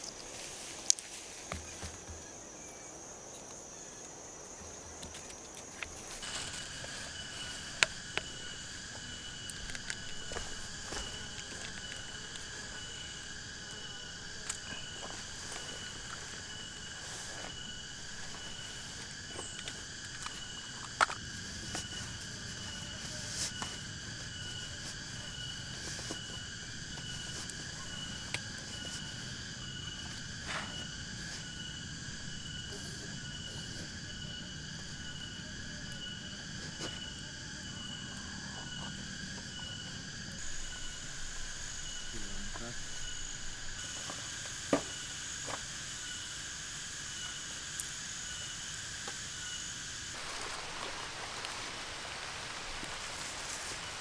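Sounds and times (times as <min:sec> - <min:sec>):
forest insects chorus: 0:00.0 - 0:54.0.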